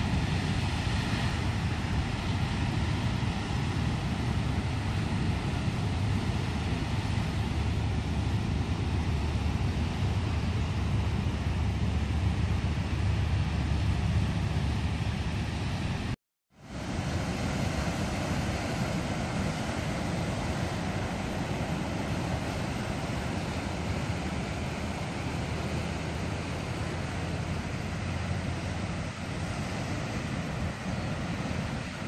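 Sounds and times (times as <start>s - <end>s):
heavy surf on rocks: 0.0s - 32.0s
wind on microphone: 0.0s - 32.0s.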